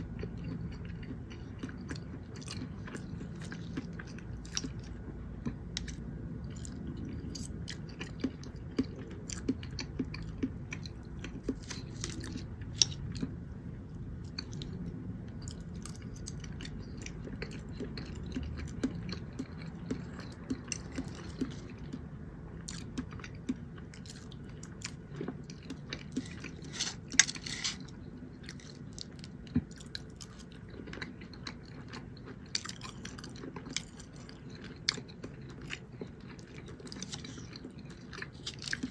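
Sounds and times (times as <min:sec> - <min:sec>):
person chewing: 0:00.0 - 0:38.9.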